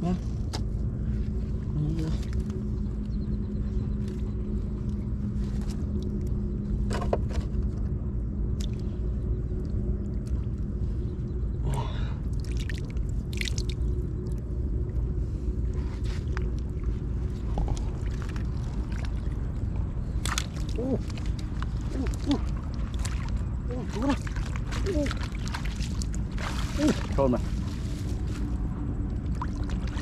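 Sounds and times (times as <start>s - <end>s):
constant hum: 0.0s - 30.0s
low rumble: 0.0s - 30.0s.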